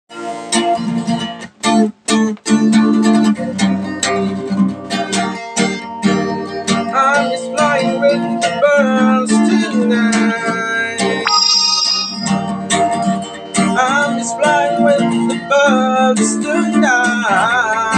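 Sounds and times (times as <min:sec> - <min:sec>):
strummed acoustic guitar: 0:00.1 - 0:11.2, 0:12.2 - 0:17.9
sliding guitar melody: 0:00.1 - 0:17.9.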